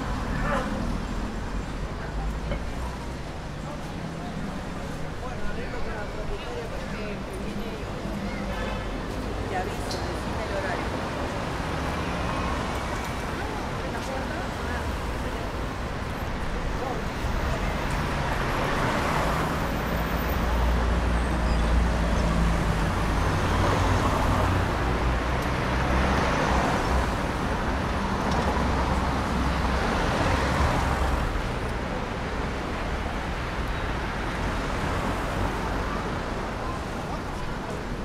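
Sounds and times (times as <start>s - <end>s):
cars passing: 0.0s - 38.0s.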